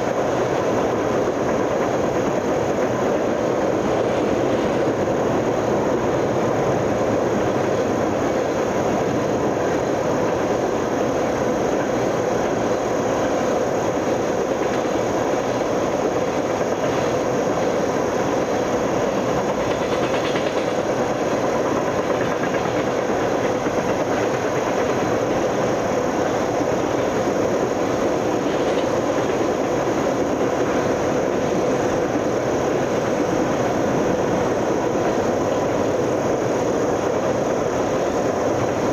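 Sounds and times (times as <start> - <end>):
train wheels rolling on rail: 0.0 - 38.9.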